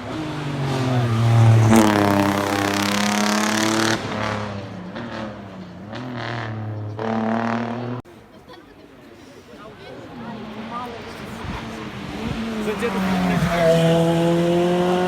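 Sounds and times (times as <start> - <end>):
race car engine accelerating: 0.0 - 8.0, 11.0 - 15.0.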